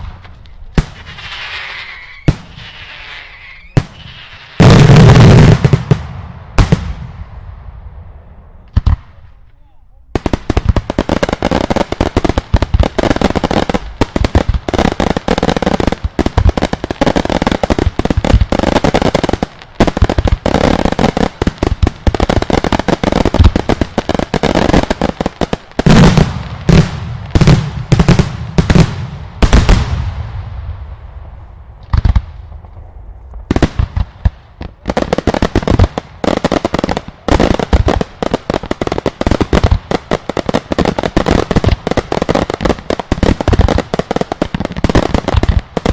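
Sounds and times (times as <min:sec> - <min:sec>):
fireworks cracking and banging: 0:00.0 - 0:07.5, 0:10.2 - 0:45.9
heavy firework booms: 0:03.7 - 0:09.2, 0:10.2 - 0:45.9.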